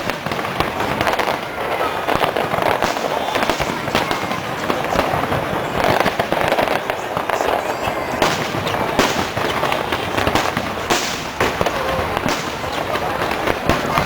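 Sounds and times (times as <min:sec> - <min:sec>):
aerial fireworks crackling and banging: 0:00.0 - 0:14.0.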